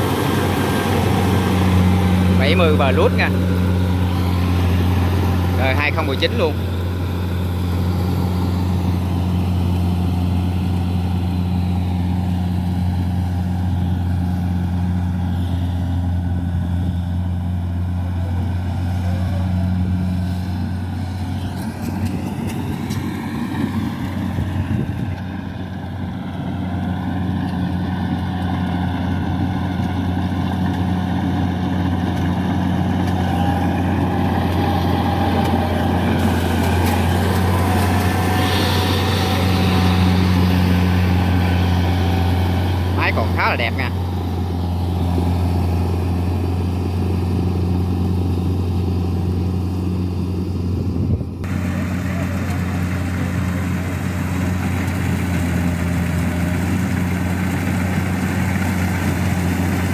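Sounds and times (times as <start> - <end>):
combine harvester engine drone: 0.0 - 59.9
cutting and threshing machinery: 0.0 - 59.9.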